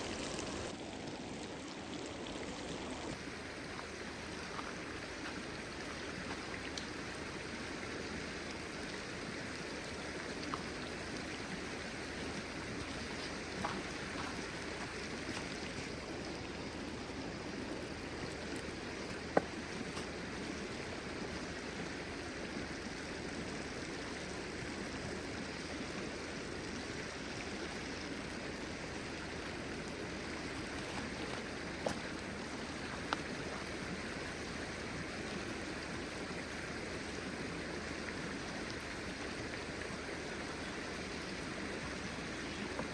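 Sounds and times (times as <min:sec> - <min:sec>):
flowing stream: 0:00.0 - 0:42.9.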